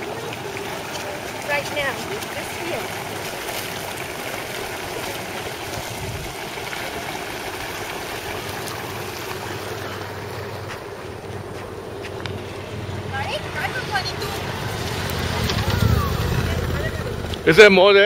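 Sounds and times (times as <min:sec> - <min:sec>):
mud bubbling and churning: 0:00.0 - 0:17.7.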